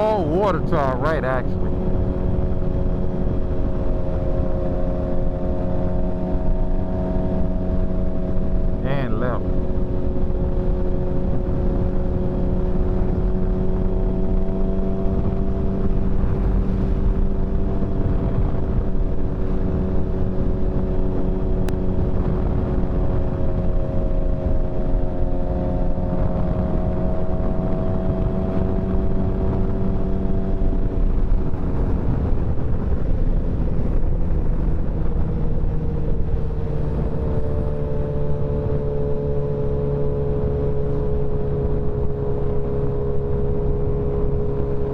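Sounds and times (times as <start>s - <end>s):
motorcycle engine cruising: 0.0s - 44.9s
wind rumble on microphone: 0.0s - 44.9s.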